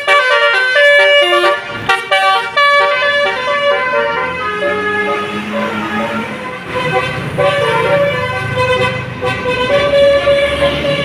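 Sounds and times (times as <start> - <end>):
musical air horn tune: 0.0 - 11.0.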